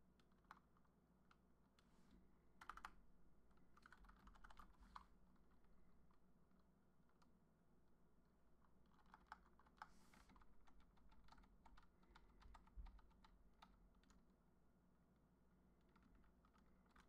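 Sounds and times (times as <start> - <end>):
faint keyboard typing: 0.0 - 7.5, 8.5 - 14.4, 15.8 - 17.0.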